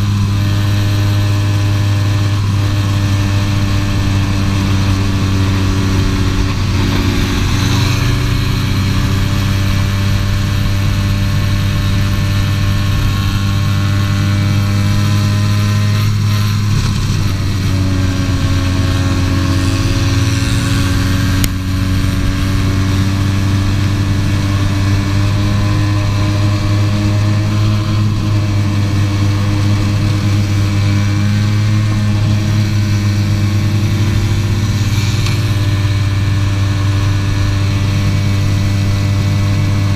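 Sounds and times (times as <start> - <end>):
two-stroke kart engine revving: 0.0 - 39.9.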